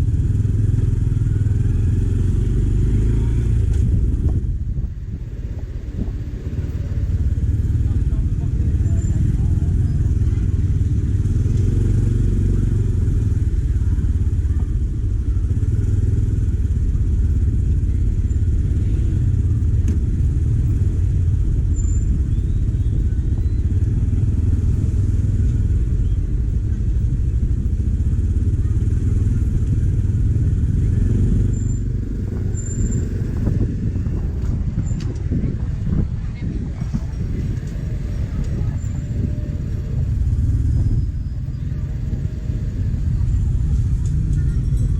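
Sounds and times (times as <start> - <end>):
motorcycle engine rumbling: 0.0 - 44.9.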